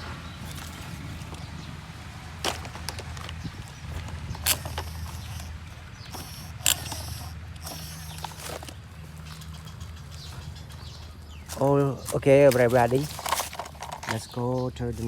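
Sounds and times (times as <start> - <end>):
steady low hum: 0.0 - 12.2
handling clicks and rustles: 0.3 - 15.0.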